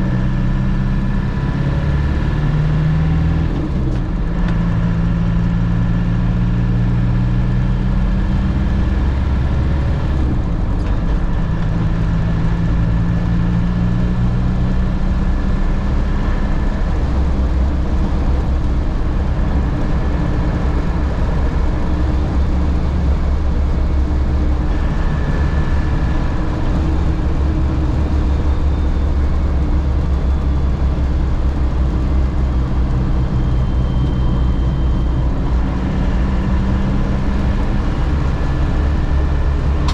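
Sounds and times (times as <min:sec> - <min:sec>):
engine rumble inside vehicle: 0:00.0 - 0:39.9
road and drivetrain noise: 0:00.0 - 0:39.9.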